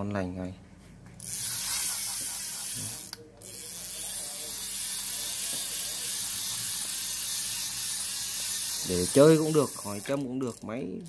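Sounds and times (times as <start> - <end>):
fishing reel whirring: 1.2 - 11.0.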